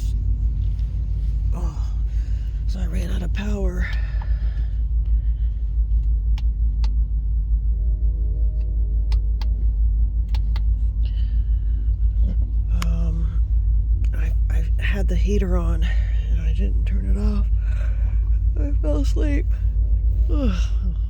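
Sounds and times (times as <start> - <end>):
faint hum: 0.0 - 21.0
steady low rumble: 0.0 - 21.0.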